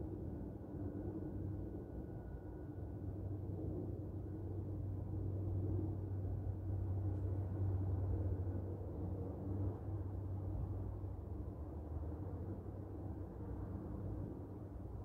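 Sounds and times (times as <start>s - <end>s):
low rumble of outdoor background: 0.0s - 15.0s.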